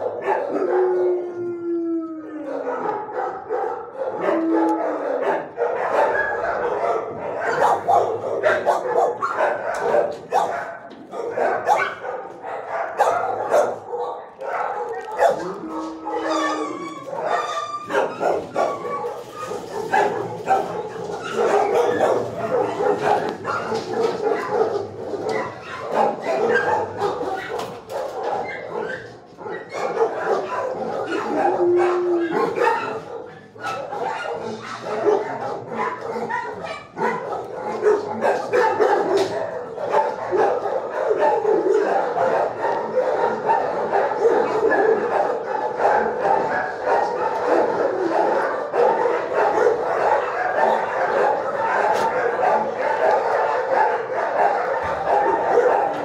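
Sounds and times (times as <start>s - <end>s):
dogs barking: 0.0s - 56.0s.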